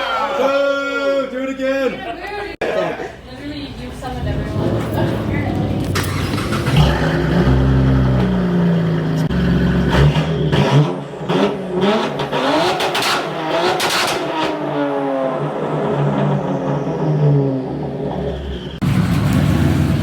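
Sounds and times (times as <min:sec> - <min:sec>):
car engine revving: 0:03.8 - 0:20.0.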